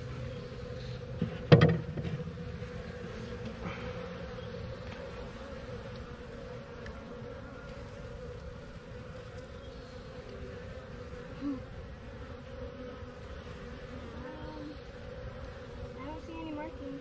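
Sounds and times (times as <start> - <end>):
bees buzzing in hive: 0.0 - 17.0
single bee buzzing close by: 0.0 - 17.0.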